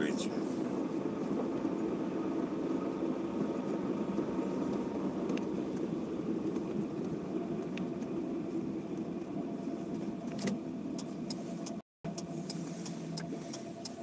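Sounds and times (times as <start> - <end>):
car engine and tyres hum: 0.0 - 14.0.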